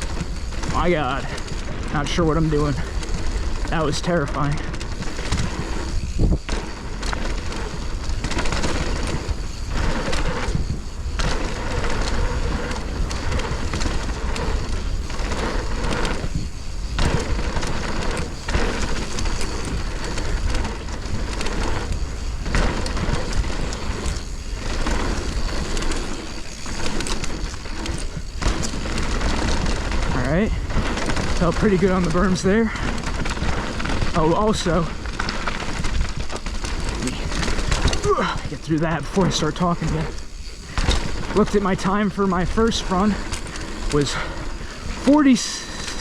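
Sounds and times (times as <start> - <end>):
bike rattling: 0.0 - 46.0
tyres crunching over dirt: 0.0 - 46.0
wind buffeting microphone: 0.0 - 46.0.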